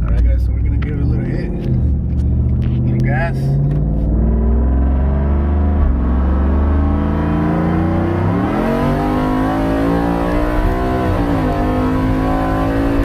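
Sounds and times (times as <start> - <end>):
loud engine rumbling and revving: 0.0 - 13.0.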